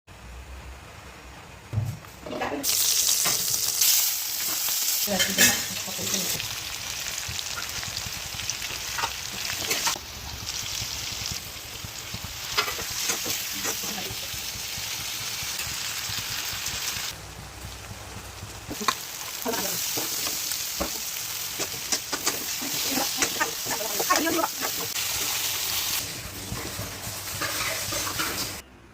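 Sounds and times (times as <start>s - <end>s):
meat sizzling in a pan: 2.6s - 28.6s.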